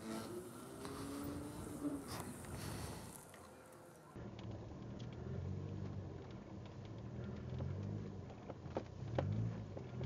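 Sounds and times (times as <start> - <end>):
vehicle engine running: 0.0 - 3.4, 4.2 - 10.0.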